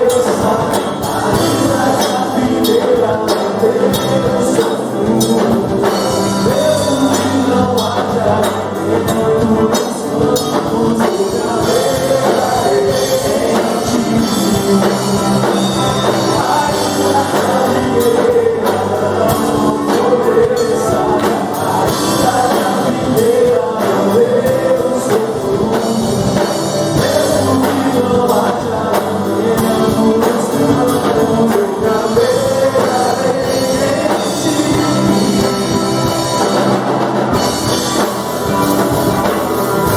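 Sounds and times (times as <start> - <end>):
steady drum beat: 0.0 - 39.9
voices singing melody: 0.0 - 39.9
worship band playing: 0.0 - 39.9.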